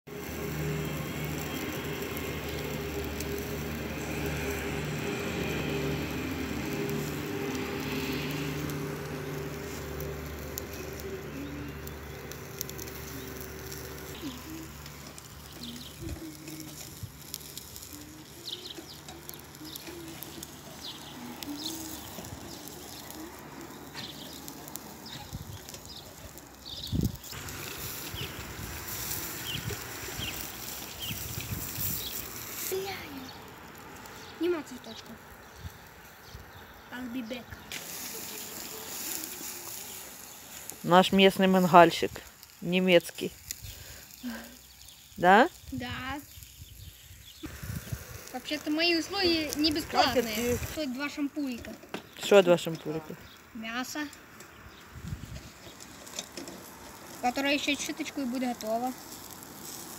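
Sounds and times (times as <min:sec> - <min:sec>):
water hissing on hot coals: 0:00.1 - 0:59.9.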